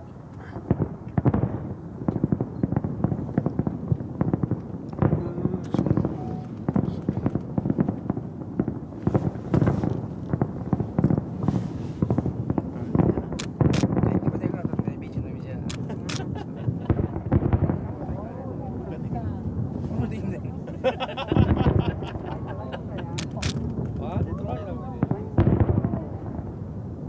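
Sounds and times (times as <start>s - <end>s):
fireworks booms and crackling bangs: 0.0s - 27.0s.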